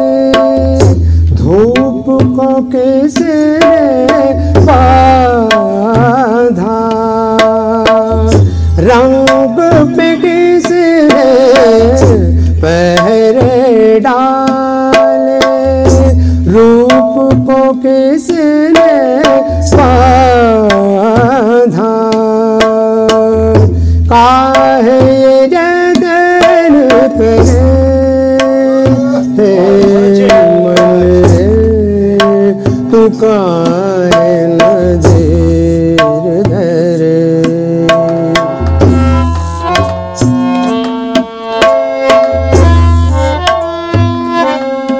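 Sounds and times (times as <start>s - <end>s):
harmonium melody: 0.0s - 44.9s
tabla drumming: 0.0s - 44.9s.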